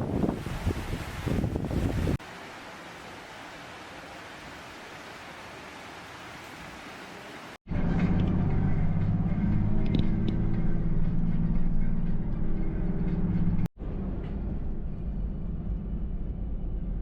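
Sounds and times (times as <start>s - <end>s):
vehicle engine and road noise: 2.0s - 17.0s.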